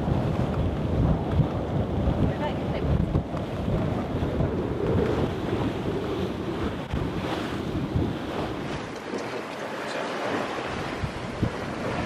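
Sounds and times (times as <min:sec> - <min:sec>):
waves rushing along hull: 0:00.0 - 0:12.0
wind buffeting microphone: 0:00.0 - 0:12.0.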